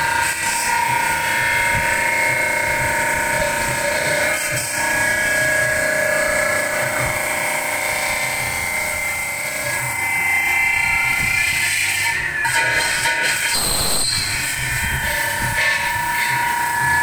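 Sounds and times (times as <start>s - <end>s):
lathe high-pitched ringing whine: 0.0s - 17.0s.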